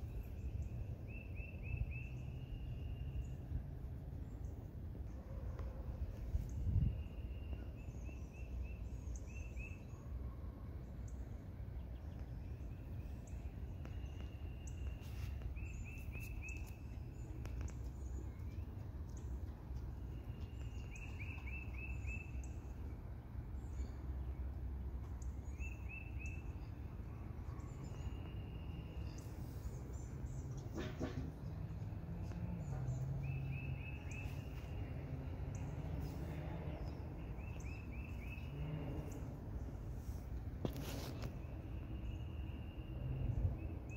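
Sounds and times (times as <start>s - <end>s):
low outdoor rumble: 0.0s - 43.9s
songbird singing: 0.0s - 43.9s.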